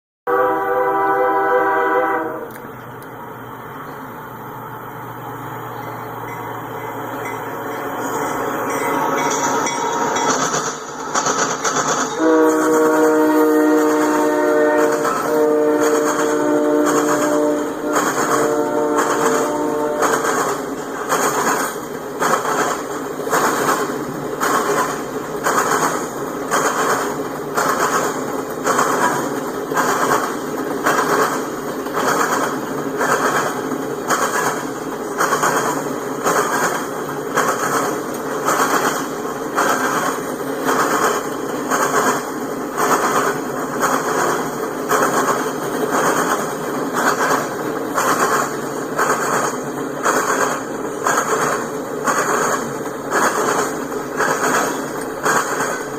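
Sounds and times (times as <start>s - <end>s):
train wheels clacking over rail joints: 5.7s - 55.9s.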